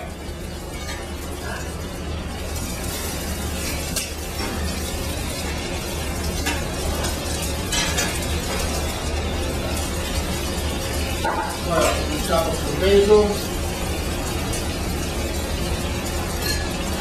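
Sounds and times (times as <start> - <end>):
chicken sizzling in a pan: 0.0 - 17.0
oil crackles and pops: 0.0 - 17.0.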